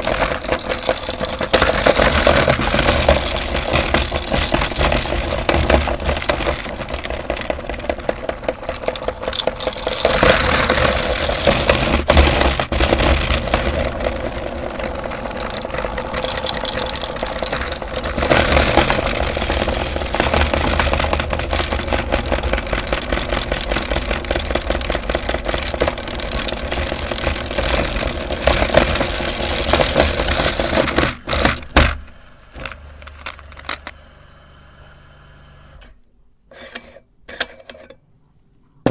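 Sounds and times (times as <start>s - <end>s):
hard candy crackling and scraping: 0.0s - 34.3s, 36.5s - 38.0s
meat grinder motor hum: 0.0s - 35.9s.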